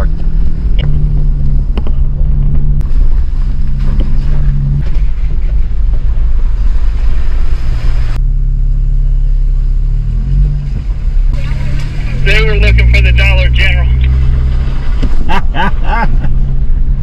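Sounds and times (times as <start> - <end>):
car engine hum: 0.0 - 17.0
low road rumble: 0.0 - 17.0.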